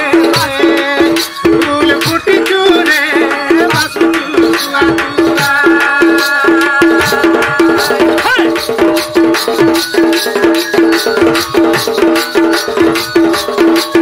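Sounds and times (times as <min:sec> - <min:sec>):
held melodic notes: 0:00.0 - 0:14.0
pitched percussion pattern: 0:00.0 - 0:14.0.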